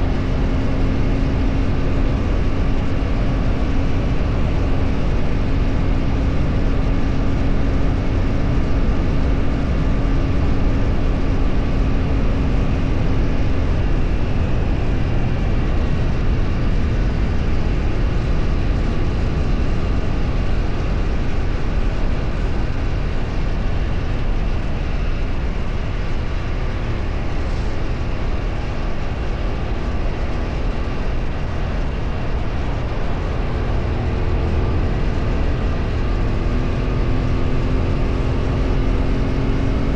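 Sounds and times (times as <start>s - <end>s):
steady hum: 0.0s - 39.9s
vehicle engine: 0.0s - 39.9s.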